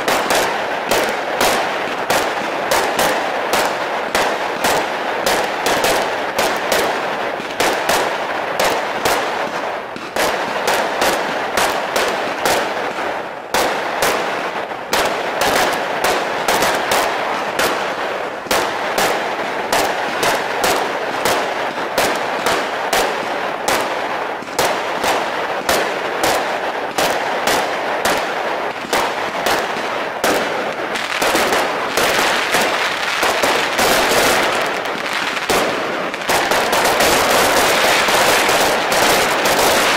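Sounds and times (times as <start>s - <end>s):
continuous hiss: 0.0s - 39.9s
fireworks bursting: 0.0s - 39.9s.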